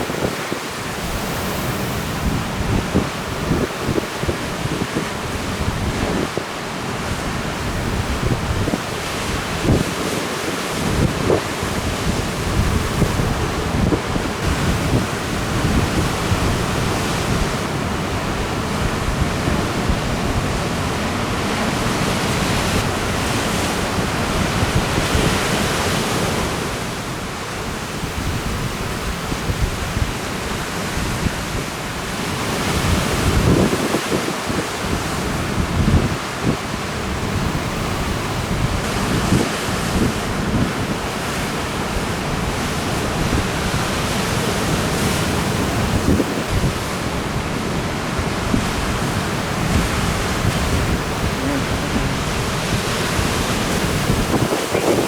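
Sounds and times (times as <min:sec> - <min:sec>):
wind buffeting microphone: 0:00.0 - 0:26.6, 0:28.0 - 0:55.0
ocean surf breaking: 0:00.0 - 0:28.0, 0:31.7 - 0:55.0.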